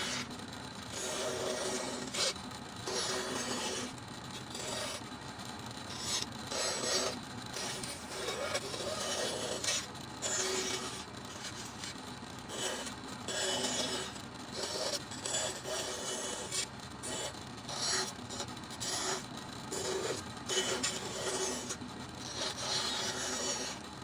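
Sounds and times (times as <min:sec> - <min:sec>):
hand tool rasping wood: 0:00.9 - 0:05.0, 0:05.9 - 0:23.8.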